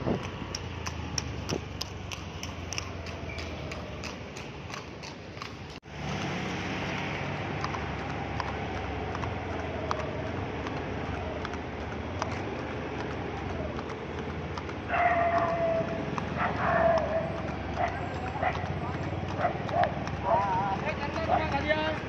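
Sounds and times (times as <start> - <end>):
hooves on asphalt: 0.0 - 22.0.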